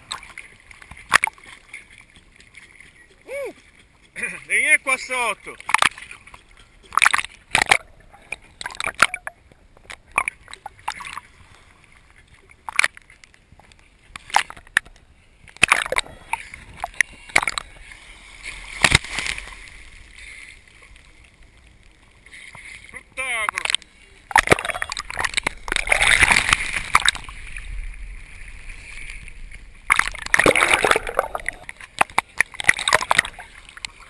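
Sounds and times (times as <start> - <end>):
small waves slapping against camera: 0.0 - 34.0.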